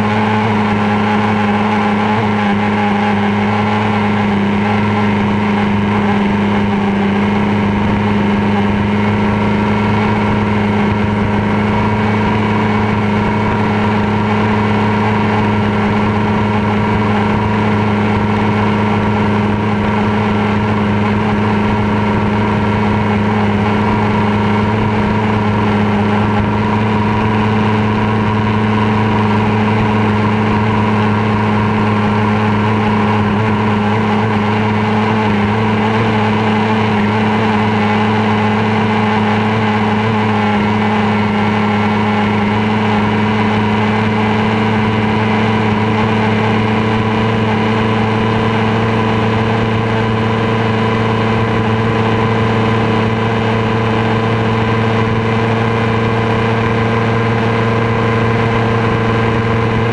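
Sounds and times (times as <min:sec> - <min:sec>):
racing outboard motor: 0:00.0 - 0:59.9.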